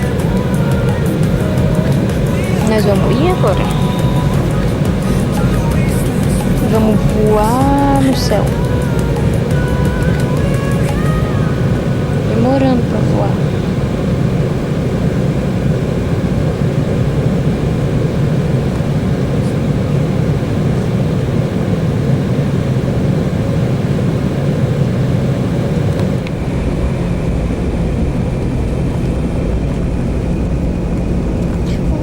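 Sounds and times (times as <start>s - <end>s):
airliner engines humming: 0.0s - 32.0s.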